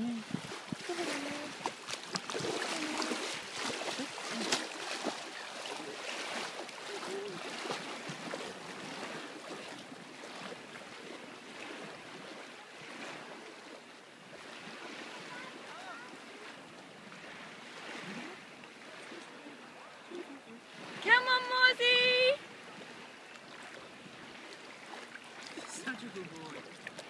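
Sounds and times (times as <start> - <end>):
wading splashes in water: 0.0 - 27.0
wash of moving water: 0.0 - 27.0.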